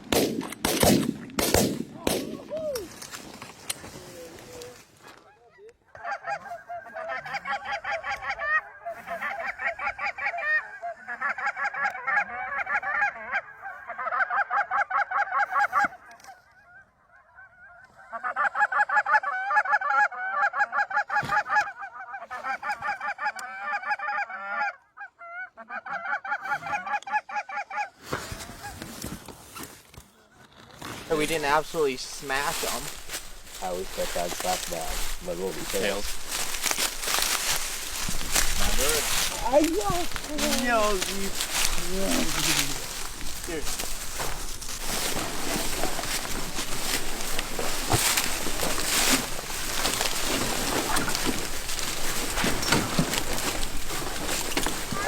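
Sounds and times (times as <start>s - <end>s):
geese honking and clucking: 2.0s - 29.2s, 31.1s - 55.0s.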